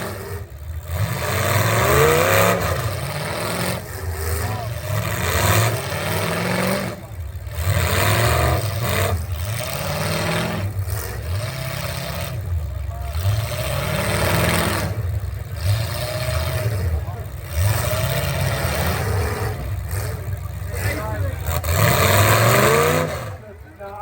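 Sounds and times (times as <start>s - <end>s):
racing truck engine revving: 0.0s - 24.0s.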